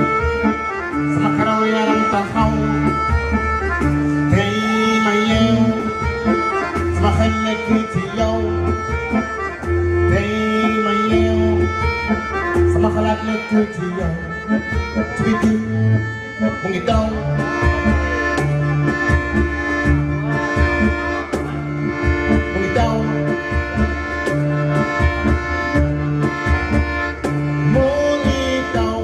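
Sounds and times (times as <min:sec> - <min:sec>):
accordion: 0:00.0 - 0:29.0
folk dance band playing: 0:00.0 - 0:29.0
repeating bass line: 0:00.0 - 0:29.0.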